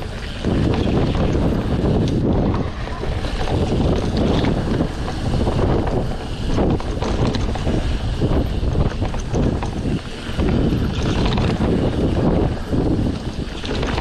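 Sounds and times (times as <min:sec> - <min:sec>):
tyres rumbling on trail: 0:00.0 - 0:14.0
wind buffeting microphone: 0:00.0 - 0:14.0.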